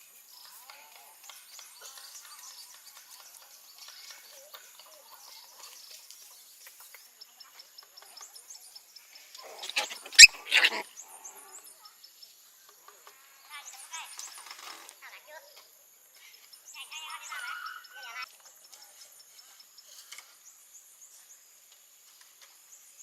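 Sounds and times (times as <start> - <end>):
birds chirping: 1.0 - 21.6.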